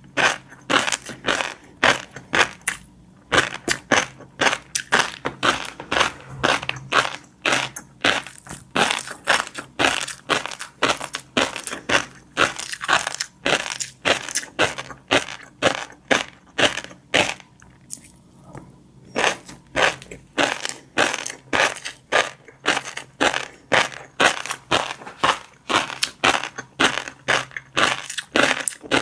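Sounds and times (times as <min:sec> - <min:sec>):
chewing crunchy fish roe: 0:00.0 - 0:29.0.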